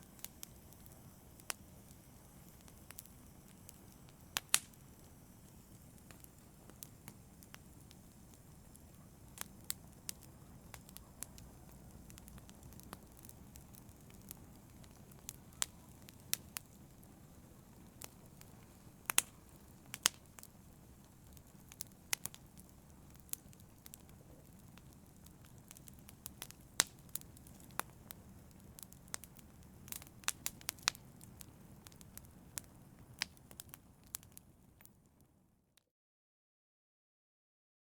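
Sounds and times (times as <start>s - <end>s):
wood fire crackling: 0.0s - 35.4s.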